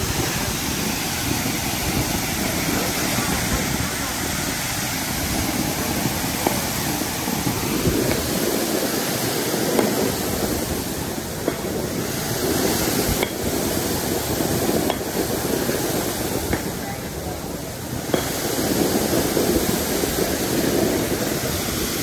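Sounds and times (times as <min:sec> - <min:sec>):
water gushing from hydrant: 0:00.0 - 0:22.0.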